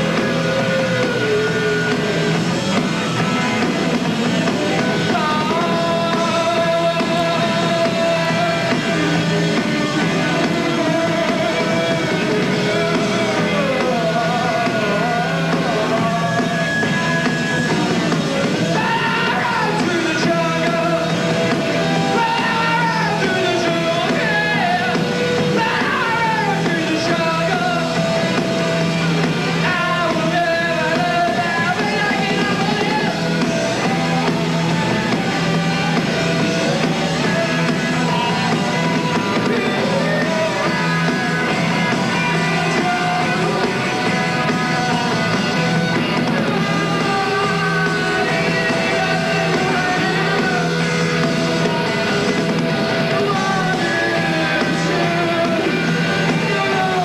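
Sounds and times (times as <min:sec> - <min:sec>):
man singing: 0:00.0 - 0:57.0
rock band playing live: 0:00.0 - 0:57.0.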